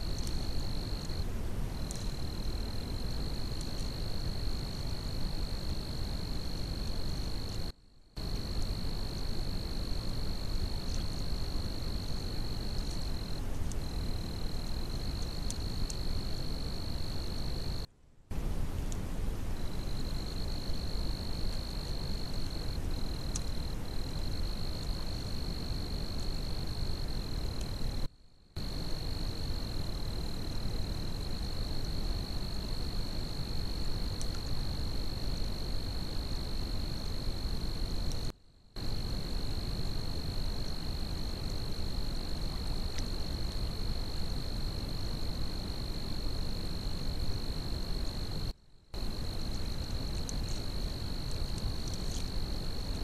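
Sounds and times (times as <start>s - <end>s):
crickets trilling: 0.0s - 17.9s, 19.5s - 53.0s
constant hiss: 0.0s - 53.0s.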